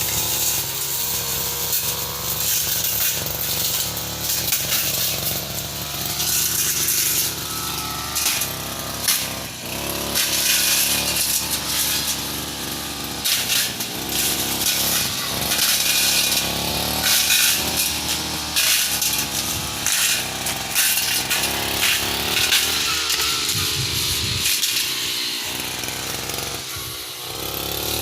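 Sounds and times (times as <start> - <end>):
brush cutter running: 0.0 - 28.0.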